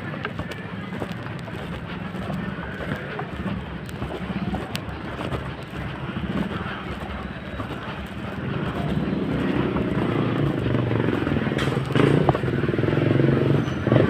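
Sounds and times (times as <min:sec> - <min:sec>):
small motorcycle engine approaching: 0:00.0 - 0:14.0.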